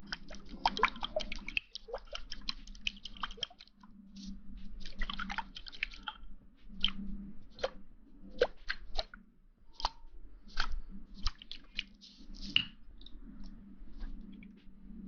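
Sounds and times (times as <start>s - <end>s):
wet crackles and squishes: 0.0s - 9.2s, 9.8s - 14.7s.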